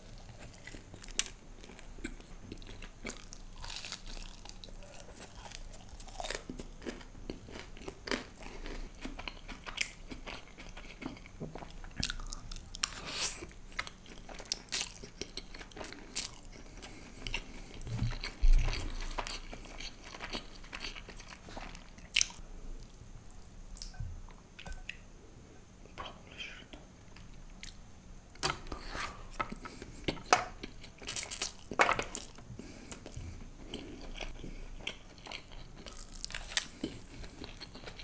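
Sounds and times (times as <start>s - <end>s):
crunching and chewing fried food: 0.0s - 24.0s, 29.4s - 38.0s.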